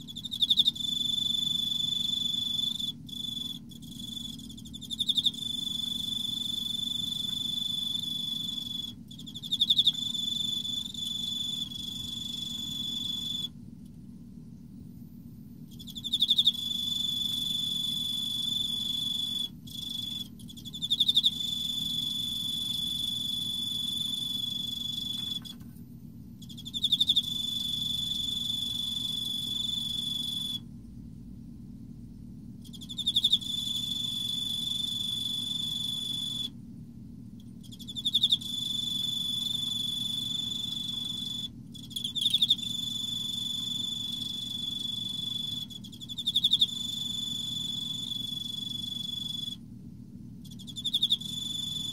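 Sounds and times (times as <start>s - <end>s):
cricket chirping and trilling: 0.0s - 13.6s, 15.6s - 25.7s, 26.4s - 30.7s, 32.6s - 36.6s, 37.4s - 49.7s, 50.3s - 51.9s
low steady hum: 0.0s - 51.9s.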